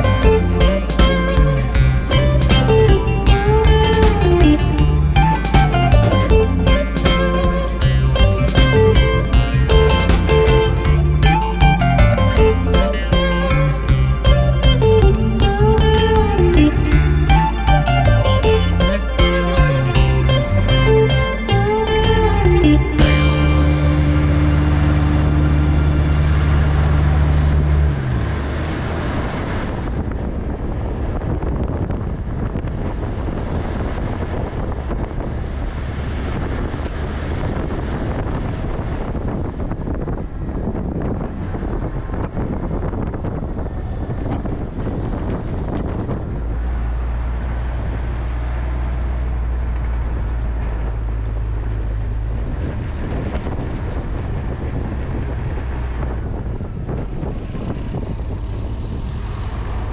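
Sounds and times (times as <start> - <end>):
diesel truck engine drone: 0.0 - 59.9
wind noise: 0.0 - 59.9.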